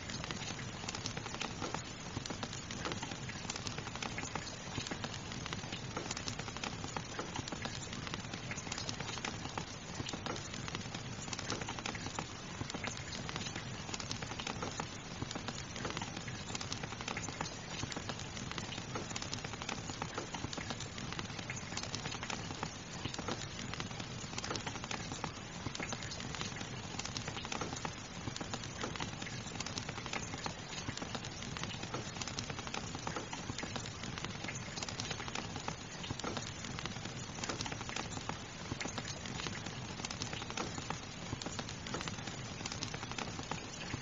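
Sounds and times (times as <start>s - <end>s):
fire crackling: 0.0s - 44.0s
steady rain: 0.0s - 44.0s.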